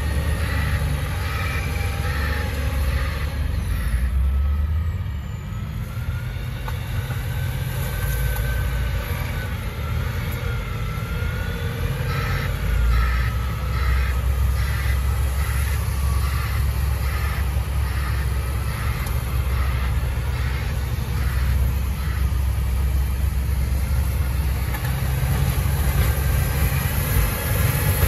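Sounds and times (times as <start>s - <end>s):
reversing alarm pulsing: 0.0s - 28.0s
tractor engine rumbling: 0.0s - 28.0s.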